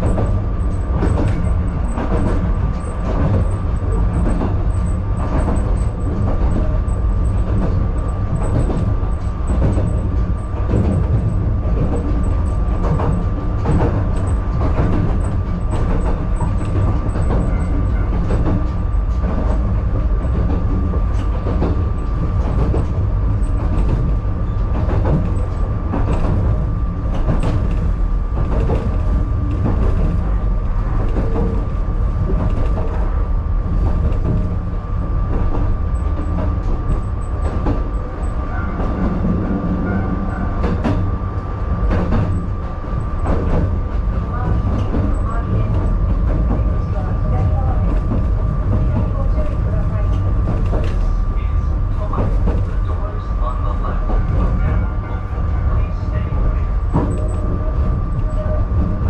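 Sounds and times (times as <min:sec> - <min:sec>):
track clacks: 0:00.0 - 0:59.0
train wheels rumbling on rail: 0:00.0 - 0:59.0.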